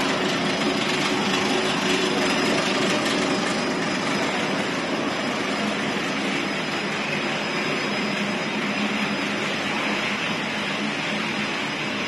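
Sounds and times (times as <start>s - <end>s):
electric motors and conveyors running: 0.0s - 12.0s.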